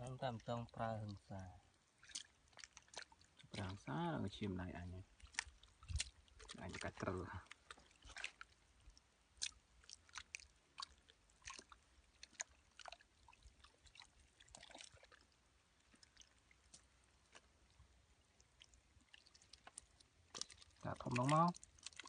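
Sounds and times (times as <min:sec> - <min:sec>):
hand squelching through wet mud: 0:01.9 - 0:22.0.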